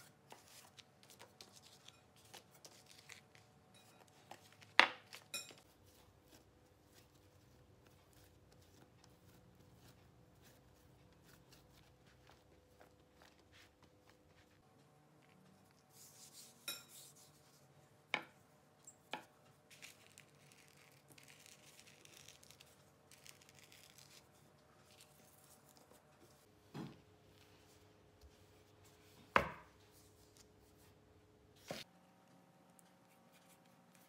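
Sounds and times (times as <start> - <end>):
room hum: 0.0 - 34.0.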